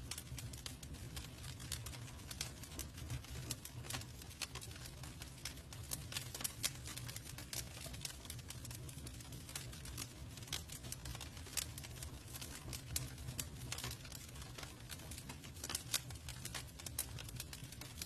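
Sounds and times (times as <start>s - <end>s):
low rumble of flames: 0.0s - 18.0s
wood crackling and popping: 0.0s - 18.0s.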